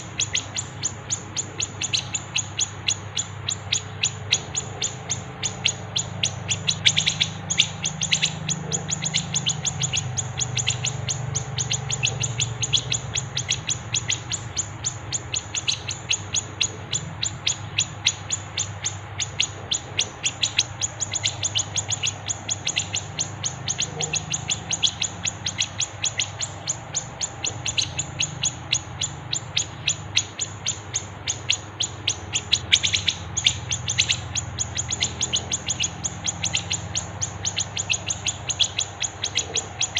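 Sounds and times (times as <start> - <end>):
songbirds chirping rapidly: 0.0 - 39.9
steady low hum: 0.0 - 39.9.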